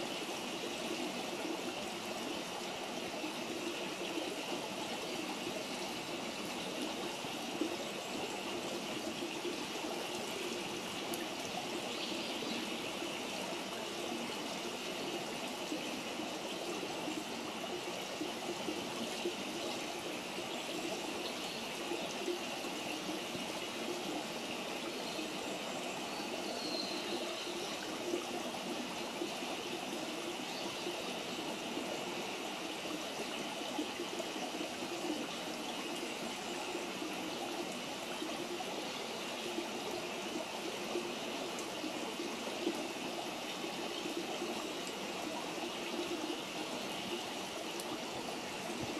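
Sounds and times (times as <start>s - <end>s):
stream water flowing: 0.0s - 48.9s.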